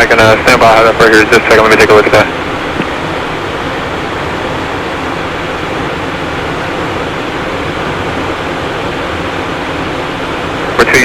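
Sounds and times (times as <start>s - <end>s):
jet cockpit airflow and engine noise: 0.0s - 11.0s.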